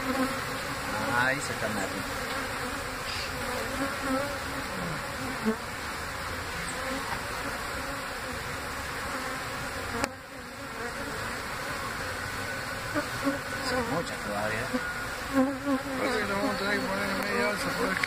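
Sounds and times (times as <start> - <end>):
honey bees buzzing: 0.0 - 18.0.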